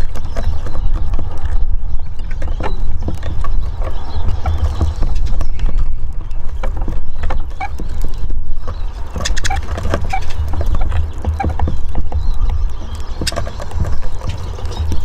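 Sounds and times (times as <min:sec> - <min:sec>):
bird chirps: 0:00.0 - 0:15.0
birds pecking on wood: 0:00.0 - 0:15.0.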